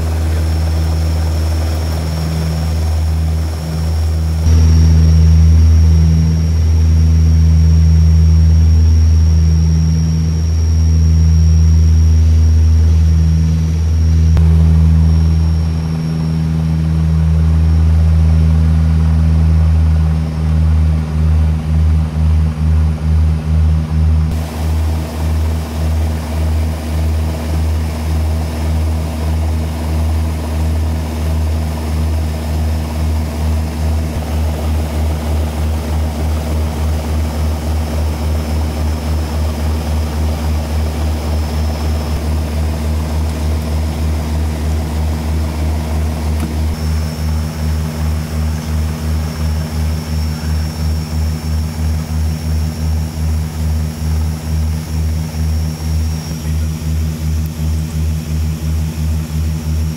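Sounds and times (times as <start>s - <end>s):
faint high turbine whine: 0.0s - 59.9s
turboprop engines droning: 0.0s - 59.9s.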